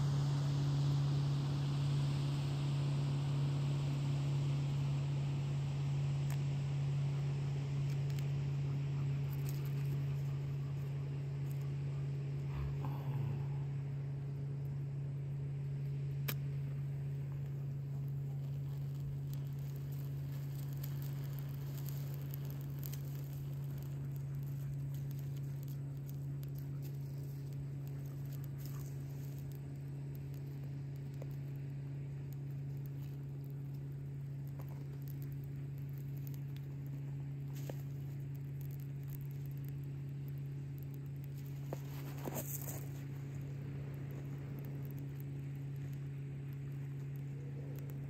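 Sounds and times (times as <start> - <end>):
smouldering tinder crackling: 0.0 - 48.0
steady low hum: 0.0 - 48.0.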